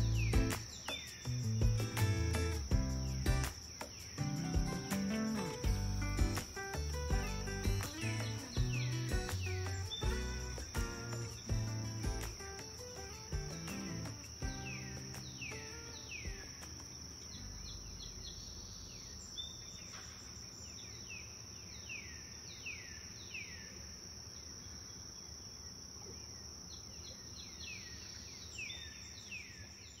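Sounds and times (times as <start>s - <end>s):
descending insect chirps: 0.0s - 29.9s
insects trilling: 0.0s - 30.0s.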